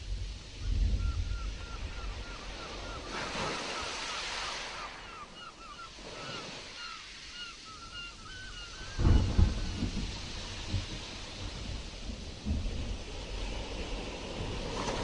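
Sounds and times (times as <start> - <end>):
surf: 0.0 - 15.0
wave washing in: 0.0 - 15.0
wind: 0.0 - 15.0.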